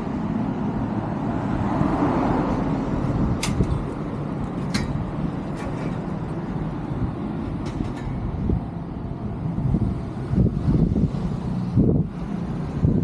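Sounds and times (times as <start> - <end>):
vehicle passing with low rumble: 0.0 - 13.0.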